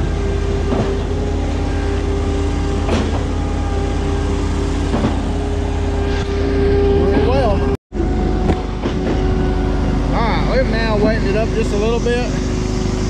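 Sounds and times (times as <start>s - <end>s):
diesel engine and hydraulics running: 0.0s - 13.0s.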